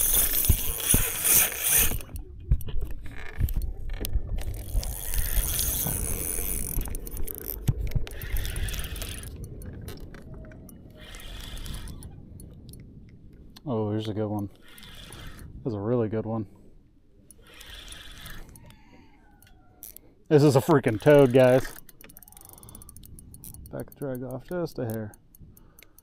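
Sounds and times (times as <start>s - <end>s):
fishing reel whirring and clicking: 0.0s - 12.8s, 14.4s - 15.6s, 17.3s - 26.0s.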